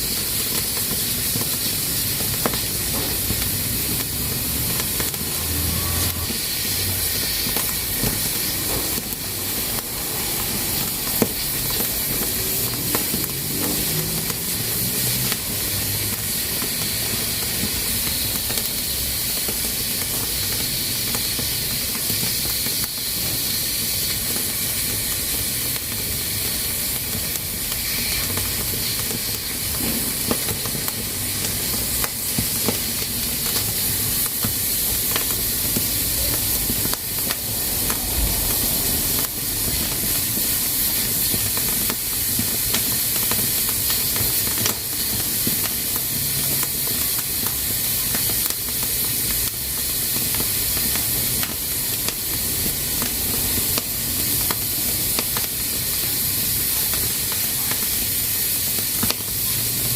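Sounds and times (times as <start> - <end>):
pressure cooker hissing: 0.0 - 59.9.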